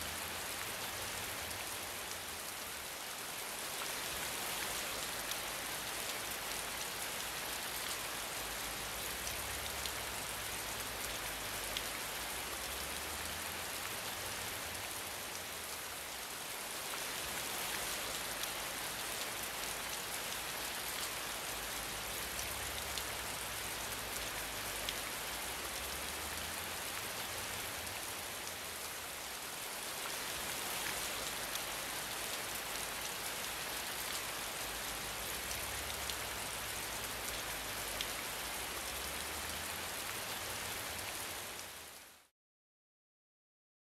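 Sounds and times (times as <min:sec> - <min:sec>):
steady rain falling: 0:00.0 - 0:42.3.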